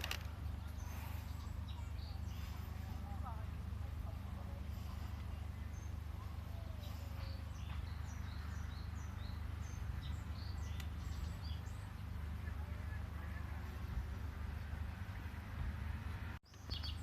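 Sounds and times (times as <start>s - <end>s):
small birds chirping: 0.0s - 15.2s, 16.4s - 17.0s.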